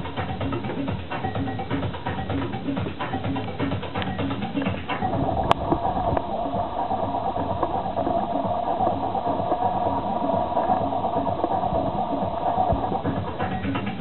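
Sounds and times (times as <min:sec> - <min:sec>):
electric buzzing hum: 0:00.0 - 0:14.0.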